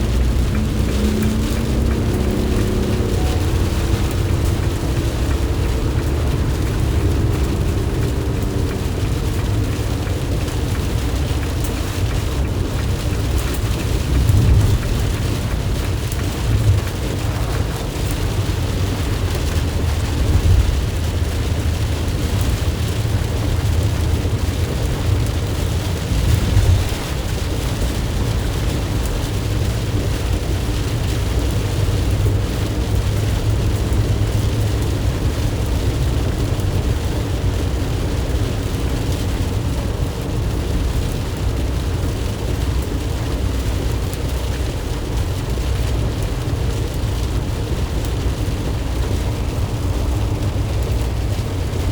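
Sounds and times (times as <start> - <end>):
rain and wet tyres hissing: 0.0 - 51.9
van road and engine rumble: 0.0 - 51.9.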